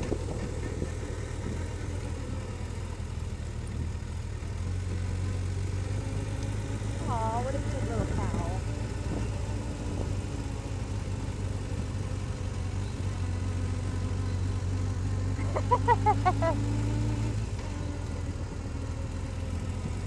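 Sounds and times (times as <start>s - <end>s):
low vehicle engine drone: 0.0s - 20.0s.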